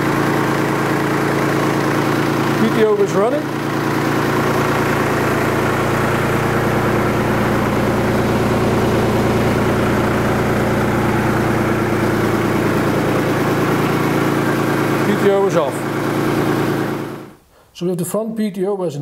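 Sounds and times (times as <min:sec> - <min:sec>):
tractor diesel engine running: 0:00.0 - 0:17.4.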